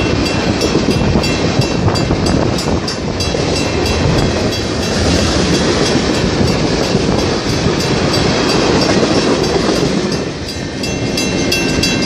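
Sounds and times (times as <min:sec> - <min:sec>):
train wheels rumbling on rail: 0:00.0 - 0:12.0
wheels clacking over rail joints: 0:00.0 - 0:12.0.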